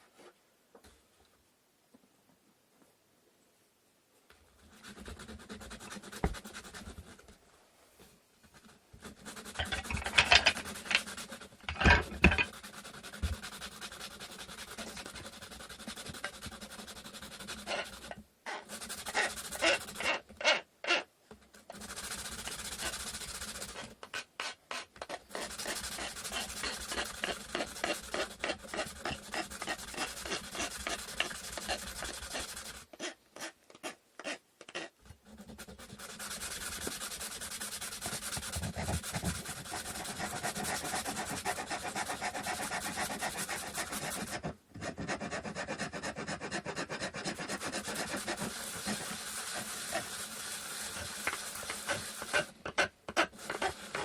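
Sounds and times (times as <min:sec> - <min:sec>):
hand sanding wood: 0:04.6 - 0:07.3, 0:08.5 - 0:54.0.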